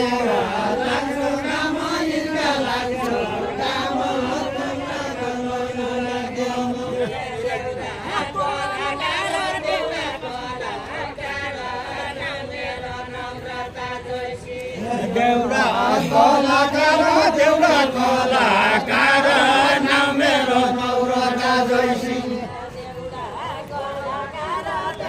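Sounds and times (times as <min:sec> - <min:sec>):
group singing in unison: 0:00.0 - 0:25.0.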